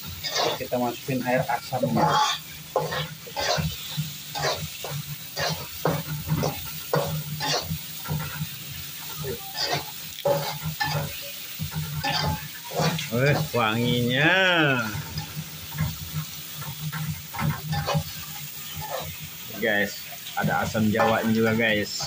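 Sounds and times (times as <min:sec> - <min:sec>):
metal ladle scraping a wok: 0:00.0 - 0:13.6, 0:15.0 - 0:22.0
paste sizzling in oil: 0:00.0 - 0:22.0.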